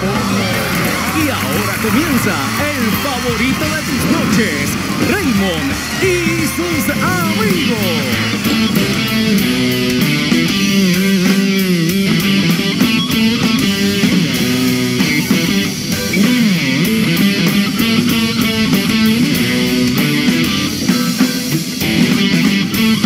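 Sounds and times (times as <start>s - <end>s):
electric guitar bending notes: 0.0s - 23.0s
live rock band playing: 0.0s - 23.0s.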